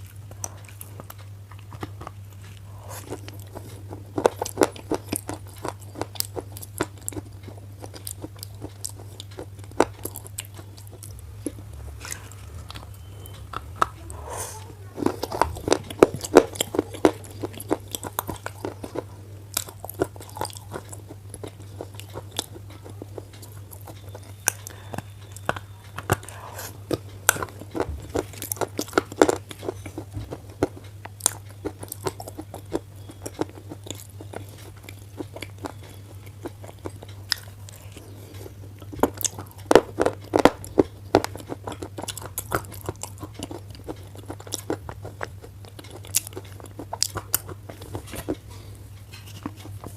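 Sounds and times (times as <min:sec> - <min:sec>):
slate pencil being chewed: 0:00.0 - 0:49.9
steady low hum: 0:00.0 - 0:49.9.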